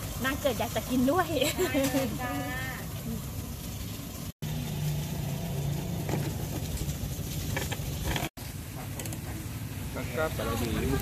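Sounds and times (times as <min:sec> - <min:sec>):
traffic rumble: 0:00.0 - 0:11.0
vehicle engine hum: 0:00.0 - 0:11.0.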